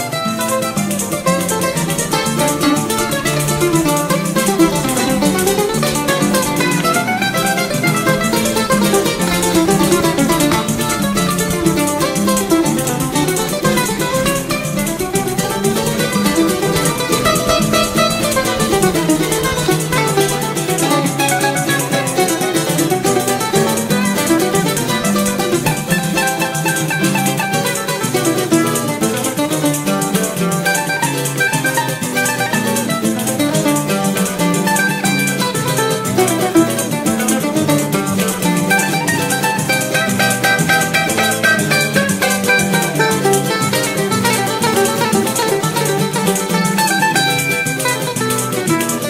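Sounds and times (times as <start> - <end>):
mandolin fast melody: 0.0 - 49.0
plucked string accompaniment: 0.0 - 49.0
rattling percussion: 0.0 - 49.0.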